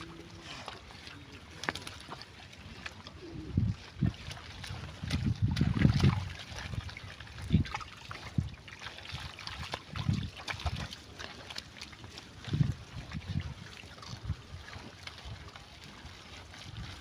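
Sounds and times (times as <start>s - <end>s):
pigs splashing in muddy water: 0.0s - 17.0s.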